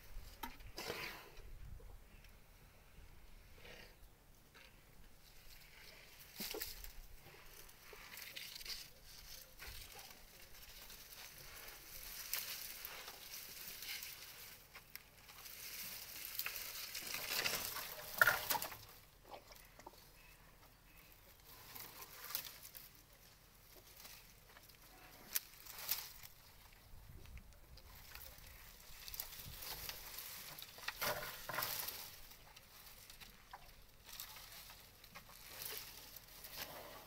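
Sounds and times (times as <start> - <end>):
dry branches and leaves crackling: 4.6 - 20.3, 20.9 - 37.0.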